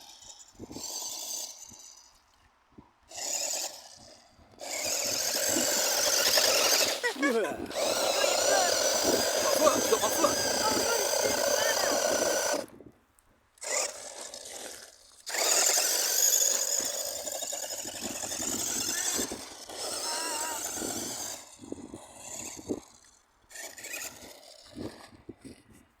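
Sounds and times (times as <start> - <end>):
rc car motor and wheels: 0.0 - 12.8, 13.6 - 26.0.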